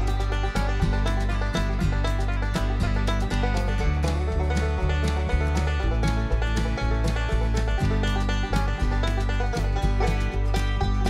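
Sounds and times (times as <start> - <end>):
bluegrass plucked strings music: 0.0 - 11.0.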